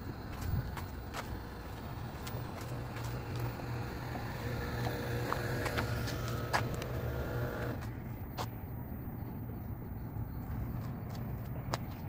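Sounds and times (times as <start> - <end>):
faint steady tones: 0.0 - 12.0.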